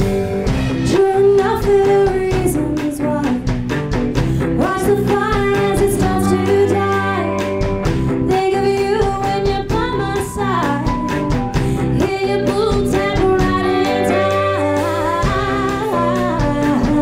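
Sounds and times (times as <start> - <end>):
live rock band playing: 0.0 - 17.0
woman singing: 0.8 - 3.6, 4.4 - 17.0.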